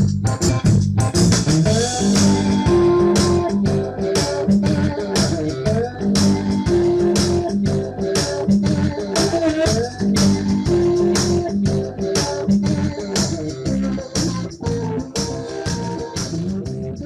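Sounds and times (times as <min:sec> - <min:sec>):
upbeat guitar music: 0:00.0 - 0:17.0.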